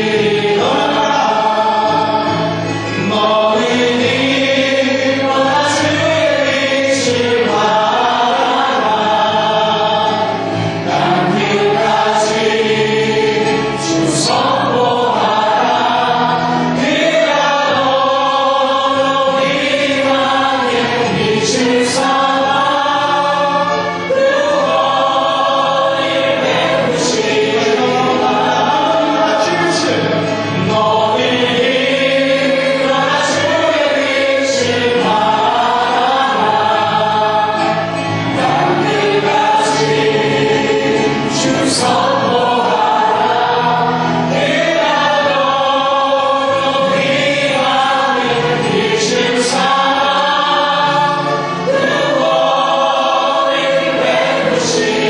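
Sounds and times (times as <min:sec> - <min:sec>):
group singing into microphones: 0:00.0 - 0:55.0.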